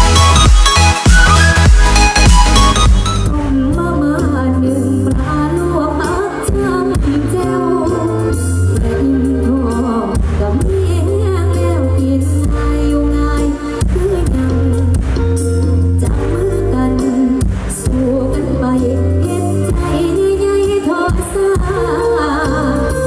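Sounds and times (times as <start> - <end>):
pop song over loudspeakers: 0.0 - 23.0.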